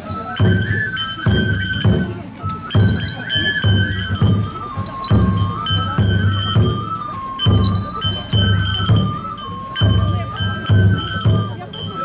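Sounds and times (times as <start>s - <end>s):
bamboo flute melody: 0.0s - 12.0s
loud taiko drum strokes: 0.0s - 12.0s.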